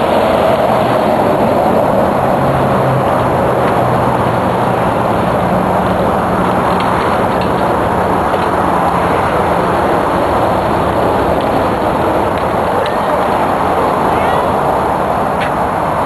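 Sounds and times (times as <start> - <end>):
rushing noise of vehicle ride: 0.0 - 16.0.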